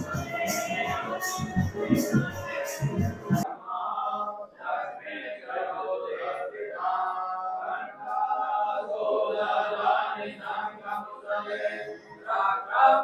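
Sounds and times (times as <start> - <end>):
voices chanting a hymn: 0.0 - 13.0.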